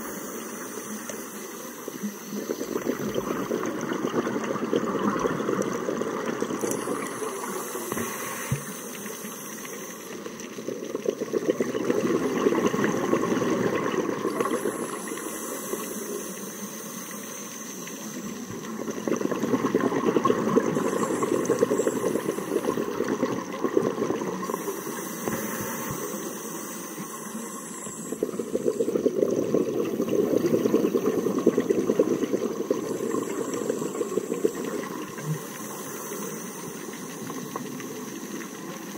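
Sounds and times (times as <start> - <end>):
regulator hissing inhale: 0.0 - 4.0, 6.6 - 10.7, 12.8 - 19.2, 20.5 - 38.9
bubbling exhale underwater: 0.0 - 8.8, 9.8 - 16.6, 18.0 - 38.9.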